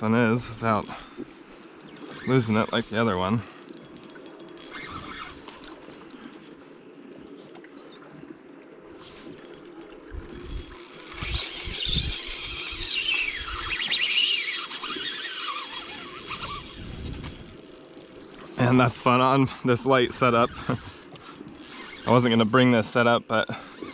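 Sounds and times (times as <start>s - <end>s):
fishing reel drag squealing: 0.0s - 1.2s, 1.8s - 6.5s, 9.0s - 23.9s.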